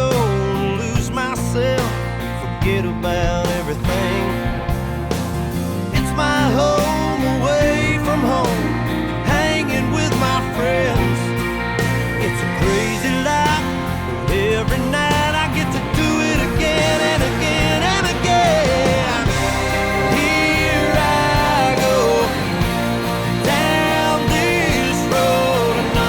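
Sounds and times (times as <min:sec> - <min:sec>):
instrumental country-rock music: 0:00.0 - 0:26.0.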